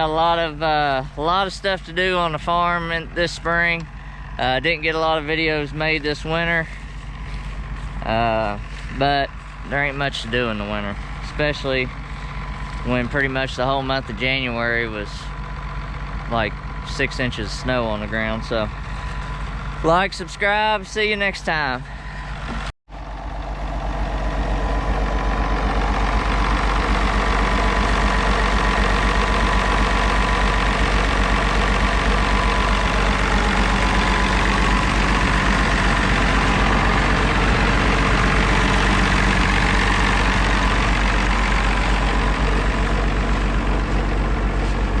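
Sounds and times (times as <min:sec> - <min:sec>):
diesel tractor engine running: 0:00.0 - 0:45.0.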